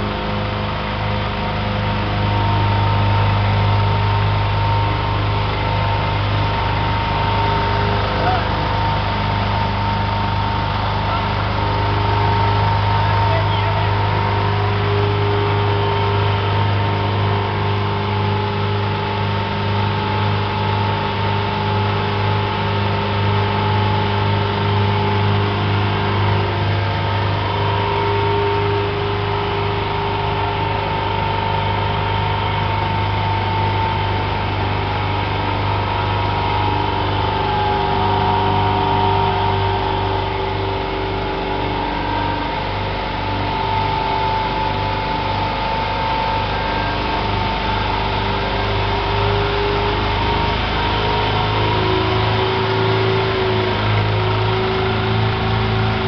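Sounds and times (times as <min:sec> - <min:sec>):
blower whine: 0:00.0 - 0:56.0
engine hum: 0:00.0 - 0:56.0.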